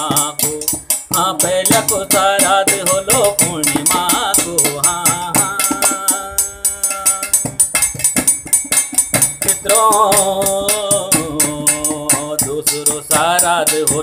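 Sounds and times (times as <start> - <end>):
drum and rattle percussion: 0.0 - 14.0.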